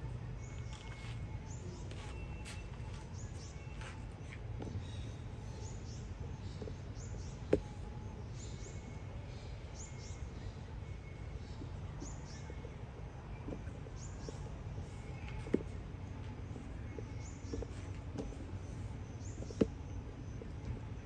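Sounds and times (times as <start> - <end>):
low steady rumble: 0.0 - 21.0
small birds chirping: 0.0 - 21.0.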